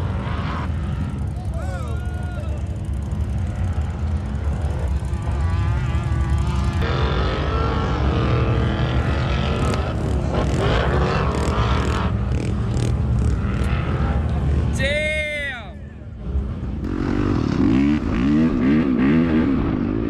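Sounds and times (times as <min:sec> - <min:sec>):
off-road engines revving: 0:00.0 - 0:20.0.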